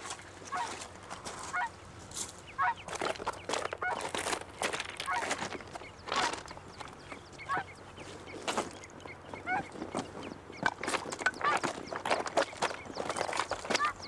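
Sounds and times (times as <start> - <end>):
footsteps crunching on loose stones: 0.0 - 14.0.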